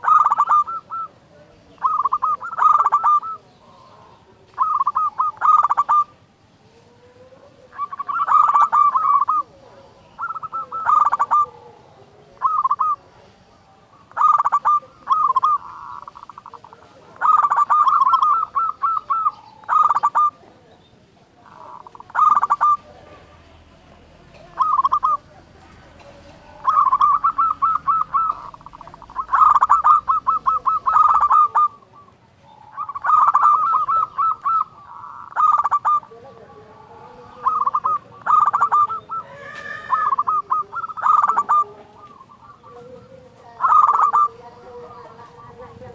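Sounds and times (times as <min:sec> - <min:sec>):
dove cooing: 0:00.0 - 0:45.9.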